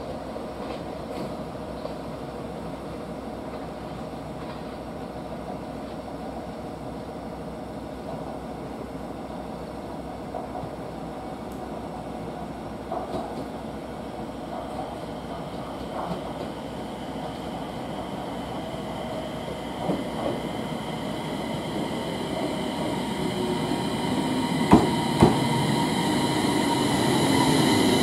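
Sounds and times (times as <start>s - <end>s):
train wheels and motors rumbling: 0.0s - 28.0s.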